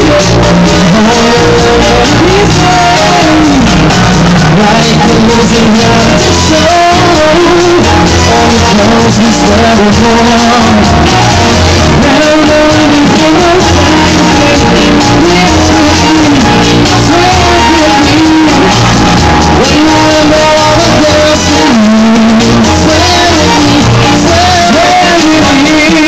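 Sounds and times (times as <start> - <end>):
loud music with singing: 0.0 - 26.0.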